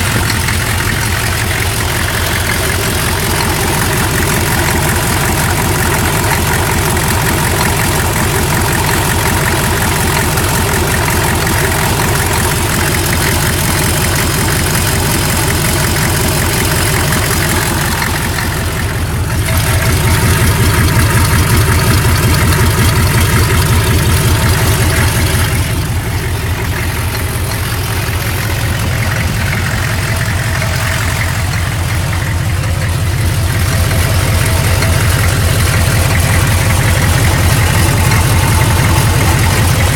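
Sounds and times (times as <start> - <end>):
diesel engine idling: 0.0 - 39.9
metallic engine sound: 0.0 - 39.9.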